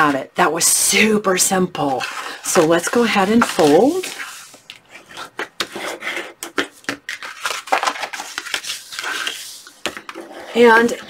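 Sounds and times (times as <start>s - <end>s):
stiff paper rustling and creasing: 1.8s - 10.7s.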